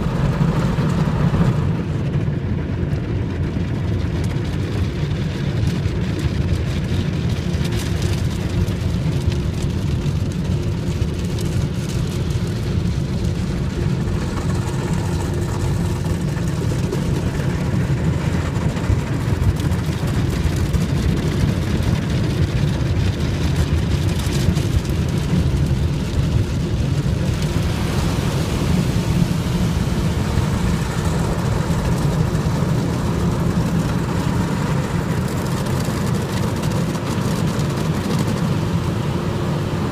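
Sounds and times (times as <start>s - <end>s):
car wash machinery rumbling: 0.0s - 39.9s.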